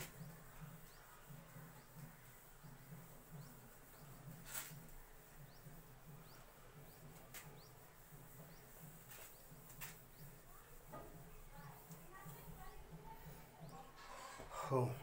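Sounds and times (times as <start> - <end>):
whiteboard wiped with duster: 0.0 - 13.5.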